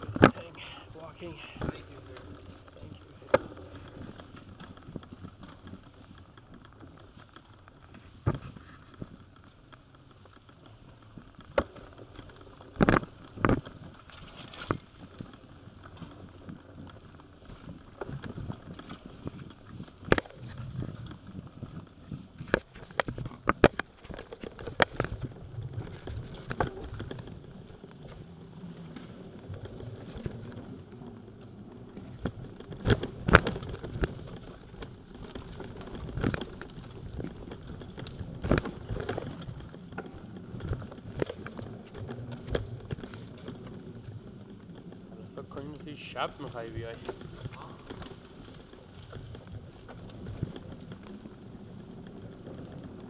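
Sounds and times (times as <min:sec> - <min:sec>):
bicycle knocks and rattles: 0:00.0 - 0:53.0
bicycle tyres rumbling on grit: 0:00.0 - 0:53.0.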